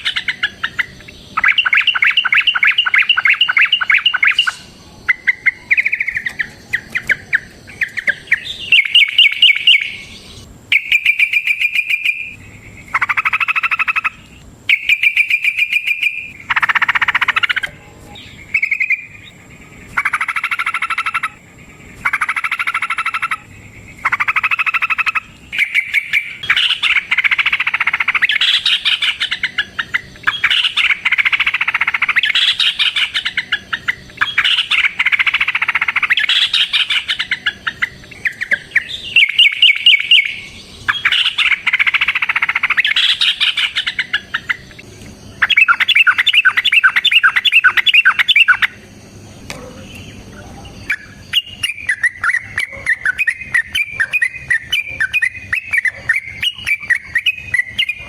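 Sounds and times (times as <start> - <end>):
bulbul warbling song: 0.0 - 48.9, 49.5 - 58.0
light bird chirping: 0.0 - 58.0.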